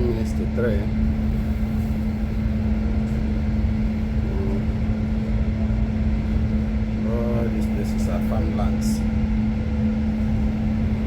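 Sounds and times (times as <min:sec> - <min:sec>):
constant low drone: 0:00.0 - 0:11.0
train rumbling: 0:00.0 - 0:11.0.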